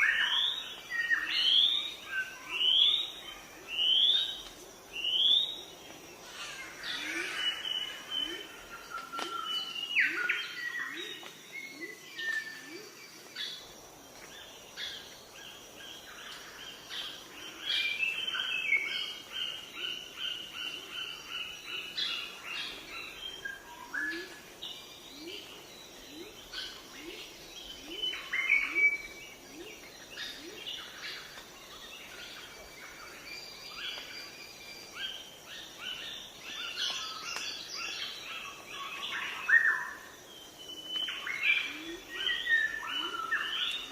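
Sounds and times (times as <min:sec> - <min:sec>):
birds chirping and trilling: 0:00.0 - 0:43.9.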